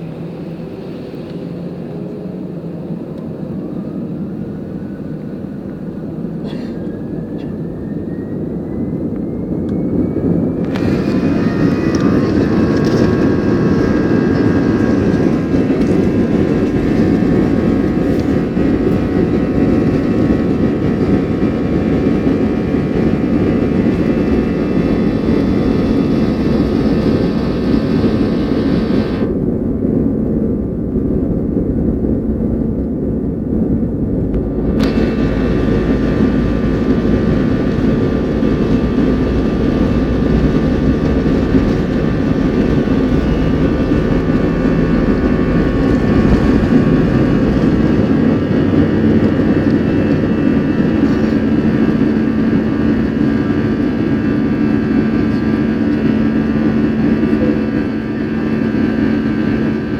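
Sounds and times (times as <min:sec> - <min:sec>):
jet engines spooling up: 0:00.0 - 0:59.9
loud steady jet engine roar: 0:00.0 - 0:59.9.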